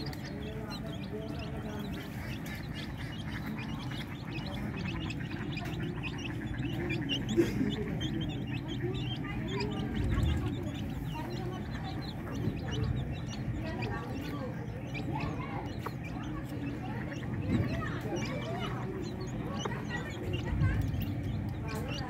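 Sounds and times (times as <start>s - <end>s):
chicks cheeping: 0.0s - 22.0s
hen clucking: 0.0s - 22.0s.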